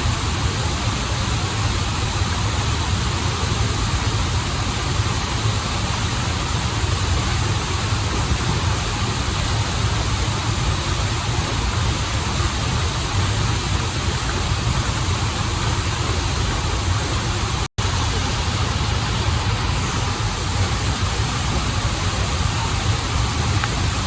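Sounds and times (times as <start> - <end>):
waterfall and river rushing: 0.0 - 24.0.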